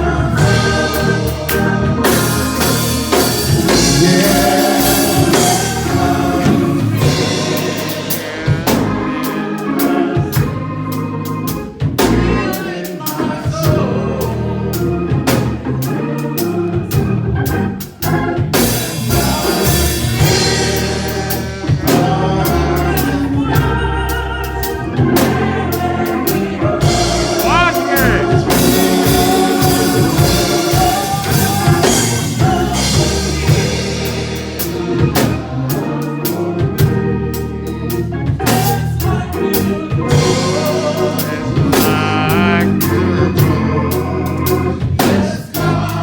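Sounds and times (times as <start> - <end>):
drum kit steady beat: 0.0 - 23.7, 25.0 - 46.0
choir singing gospel song: 0.0 - 46.0
organ: 0.0 - 46.0.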